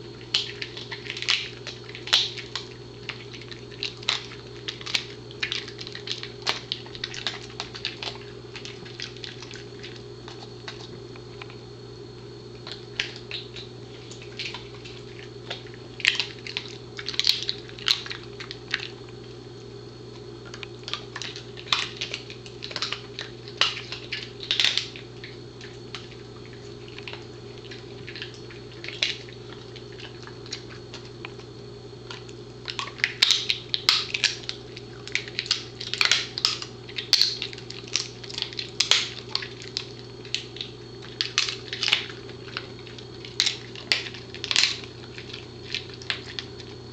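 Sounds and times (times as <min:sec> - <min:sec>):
dog chewing crunchy treat: 0:00.0 - 0:46.9
steady low hum: 0:00.0 - 0:46.9.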